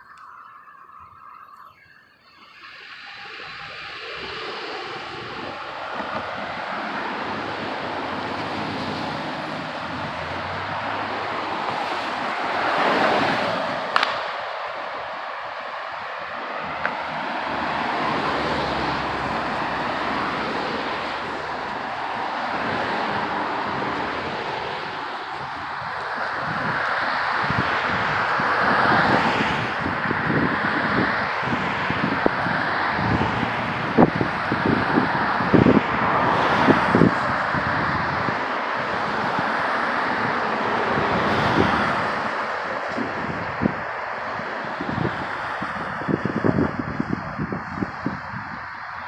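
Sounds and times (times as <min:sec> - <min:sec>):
distant city traffic: 0:00.0 - 0:49.0
wind: 0:00.0 - 0:49.0.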